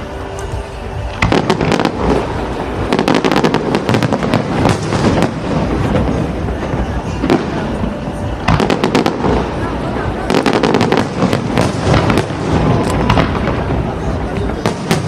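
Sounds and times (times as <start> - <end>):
crowd voices: 0.0 - 15.0
fireworks bangs and crackles: 0.0 - 15.0.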